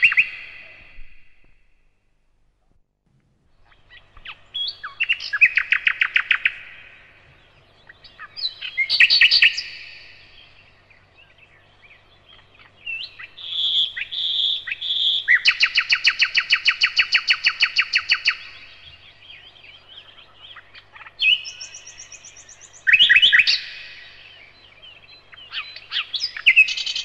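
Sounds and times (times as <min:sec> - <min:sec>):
nightingale singing: 0:00.0 - 0:01.7, 0:03.5 - 0:27.0.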